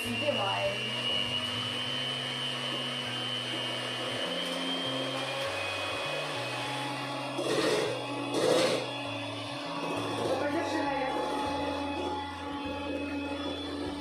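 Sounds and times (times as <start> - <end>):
electric mixer whining: 0.0 - 14.0.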